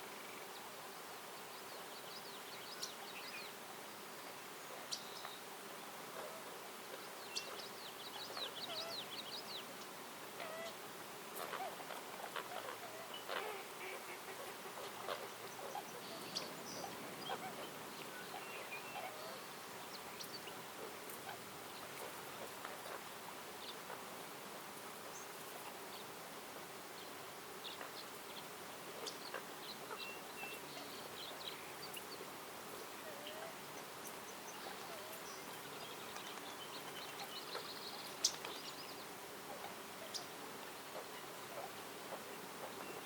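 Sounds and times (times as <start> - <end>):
background hiss: 0.0 - 43.0.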